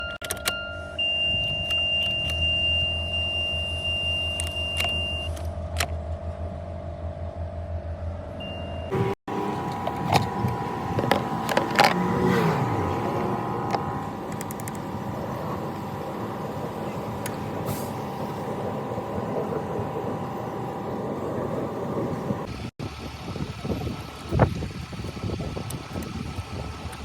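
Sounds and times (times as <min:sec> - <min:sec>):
car engine running: 0:03.9 - 0:27.0.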